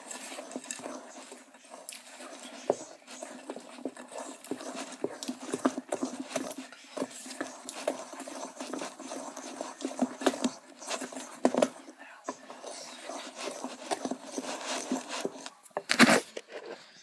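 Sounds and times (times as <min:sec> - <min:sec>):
spoon scraping mixing bowl: 0:00.0 - 0:16.9.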